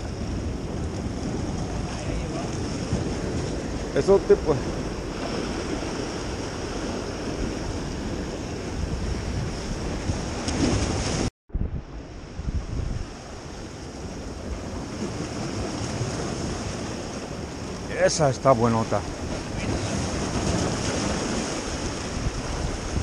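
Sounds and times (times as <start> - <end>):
surf washing against rocks: 0.0 - 11.3, 12.2 - 23.0
wind rumbling on microphone: 0.0 - 23.0.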